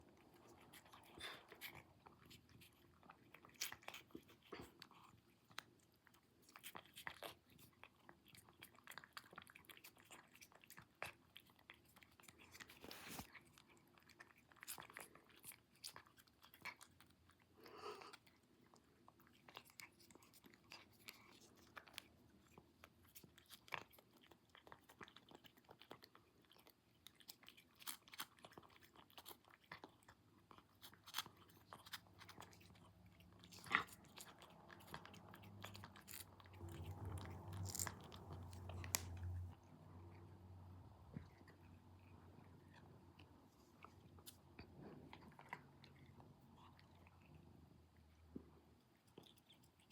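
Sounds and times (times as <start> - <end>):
cat crunching dry treats: 0.0 - 40.4.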